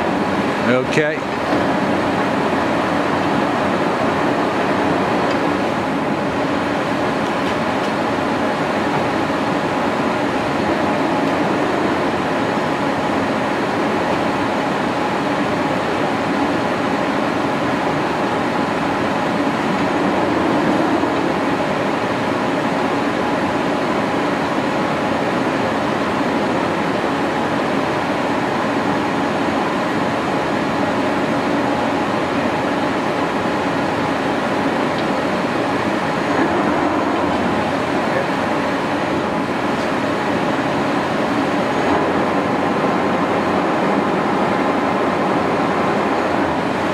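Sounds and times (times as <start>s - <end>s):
lathe running: 0.0s - 46.9s.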